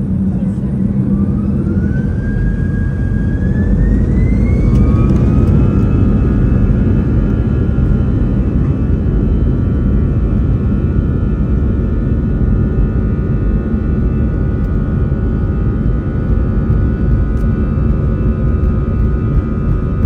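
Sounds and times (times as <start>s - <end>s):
jet engine whine: 0.0s - 20.0s
takeoff roll rumble: 0.0s - 20.0s.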